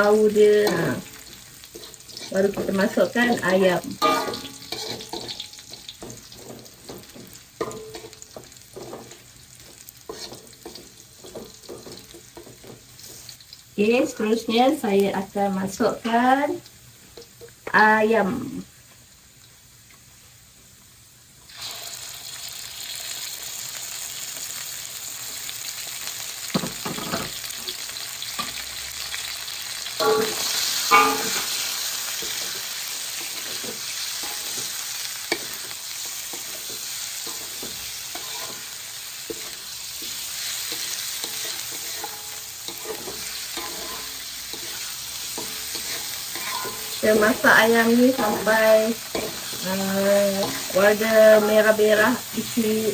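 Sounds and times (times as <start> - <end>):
chicken sizzling in hot oil: 0.0 - 52.9.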